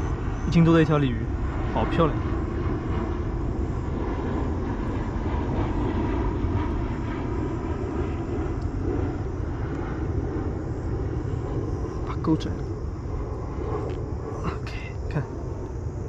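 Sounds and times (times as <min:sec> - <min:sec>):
steady low rumbling: 0:00.0 - 0:16.0.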